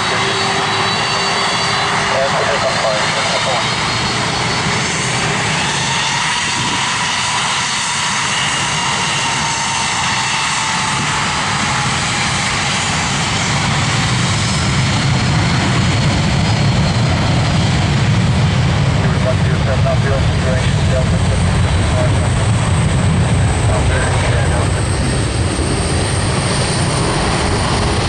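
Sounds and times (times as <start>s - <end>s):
faint engine whine: 0.0s - 28.0s
jet engines roaring: 0.0s - 28.0s.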